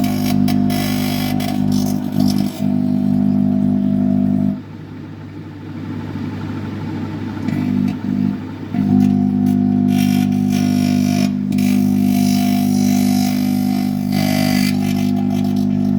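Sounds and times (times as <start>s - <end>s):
microwave oven loud hum: 0.0s - 15.9s.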